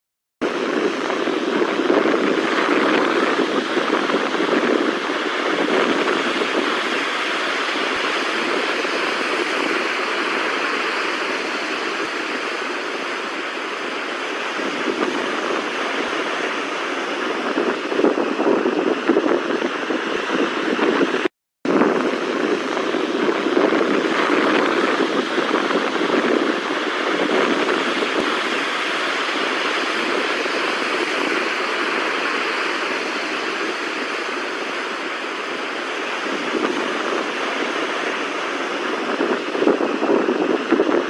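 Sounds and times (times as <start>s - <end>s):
floodwater rushing: 0.5s - 21.3s, 22.0s - 41.0s.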